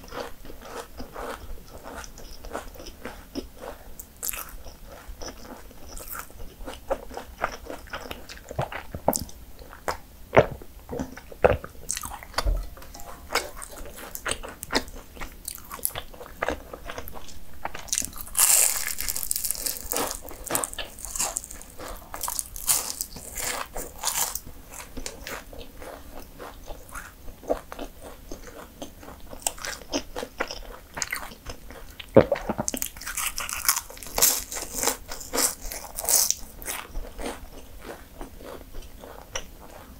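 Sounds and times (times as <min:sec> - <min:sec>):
chewing: 0:00.0 - 0:39.9
pastry crunching: 0:00.1 - 0:31.4, 0:32.3 - 0:39.9.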